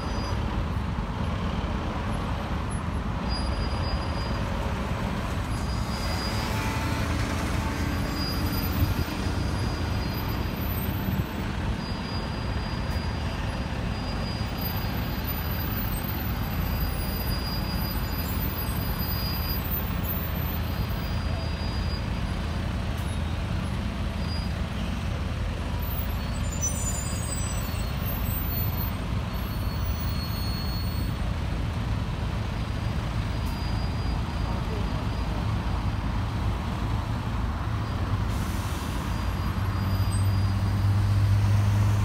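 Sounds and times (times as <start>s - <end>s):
truck diesel engine rumbling: 0.0s - 42.0s.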